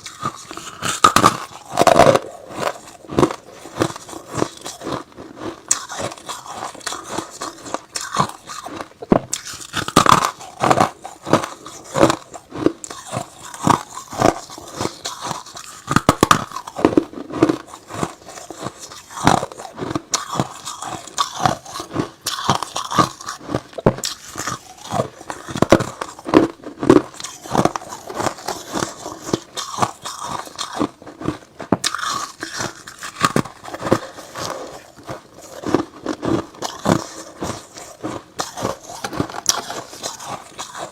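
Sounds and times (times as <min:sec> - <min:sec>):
ice being crunched and chewed: 0:00.0 - 0:40.9.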